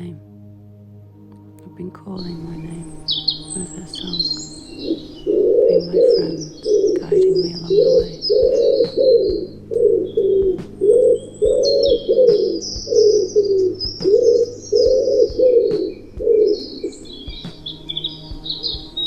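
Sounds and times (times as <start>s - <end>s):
small birds chirping: 2.0s - 19.0s
pigeon cooing: 3.0s - 19.0s.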